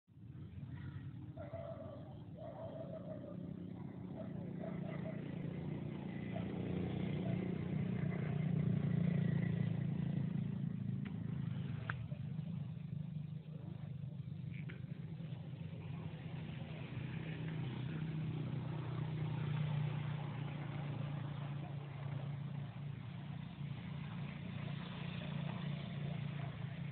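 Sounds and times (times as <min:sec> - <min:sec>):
low engine hum: 0:00.1 - 0:26.9.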